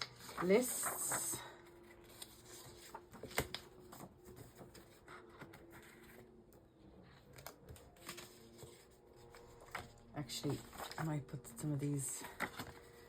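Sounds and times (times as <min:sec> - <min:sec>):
paper rustling: 0:00.0 - 0:06.3, 0:07.1 - 0:13.0.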